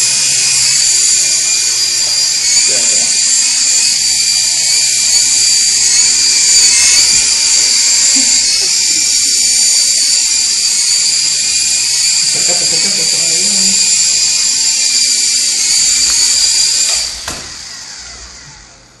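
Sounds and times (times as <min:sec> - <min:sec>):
toy helicopter rotor whine: 0:00.0 - 0:18.9.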